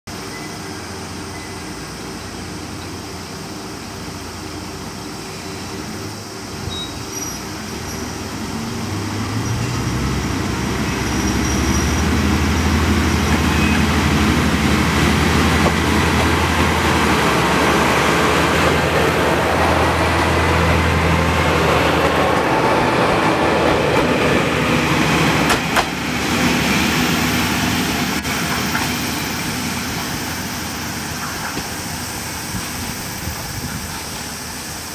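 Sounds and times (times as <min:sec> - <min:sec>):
diesel train engine: 0:00.1 - 0:34.9
train wheels rumbling on rails: 0:00.1 - 0:34.9.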